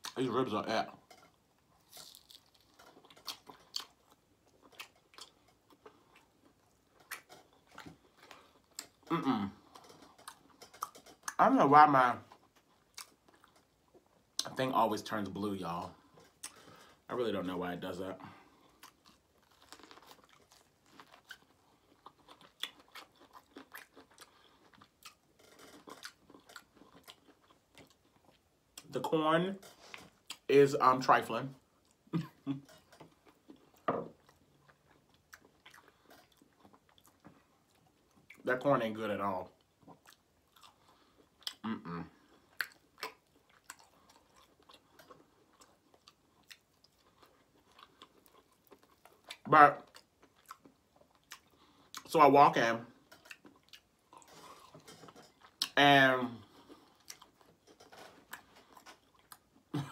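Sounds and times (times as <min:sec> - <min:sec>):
person chewing crunchy food: 0:01.3 - 0:11.4, 0:12.3 - 0:14.5, 0:18.4 - 0:28.9, 0:31.8 - 0:38.4, 0:39.5 - 0:52.1, 0:53.0 - 0:59.9.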